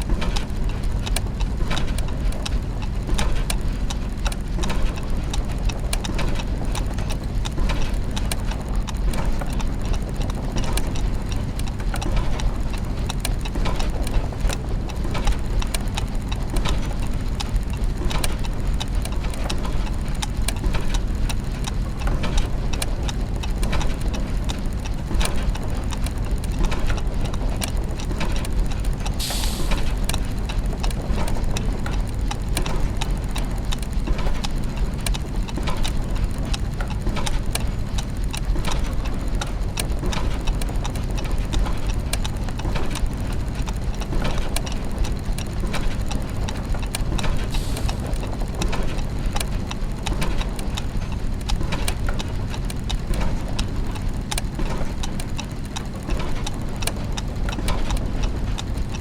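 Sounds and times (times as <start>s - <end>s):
clockwork gears ticking: 0.0s - 59.0s.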